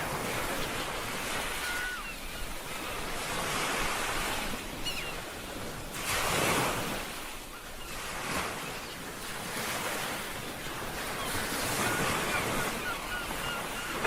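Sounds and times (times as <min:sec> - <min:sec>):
ocean waves washing onto shore: 0:00.0 - 0:14.0.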